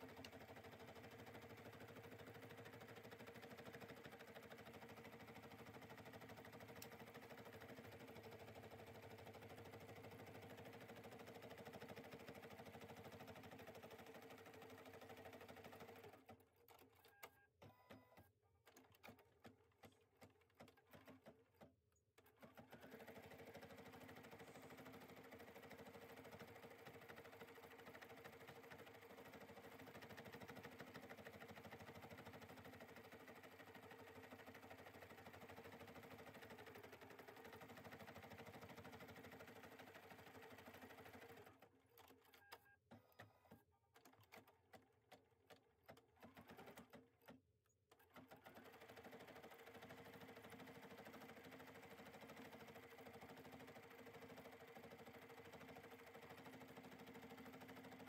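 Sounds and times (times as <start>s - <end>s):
embroidery machine stitching: 0.0s - 44.8s, 45.5s - 58.0s.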